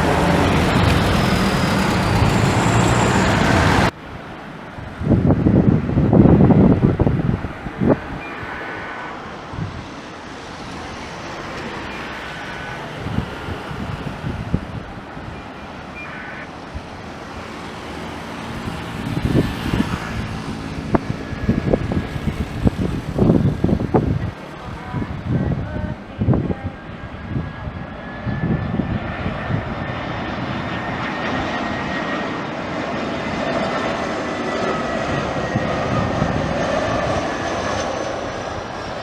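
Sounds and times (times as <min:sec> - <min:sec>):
wind buffeting microphone: 0:00.0 - 0:08.3, 0:09.4 - 0:12.2, 0:12.8 - 0:15.6, 0:16.6 - 0:39.0
jet airliner roar: 0:00.0 - 0:39.0.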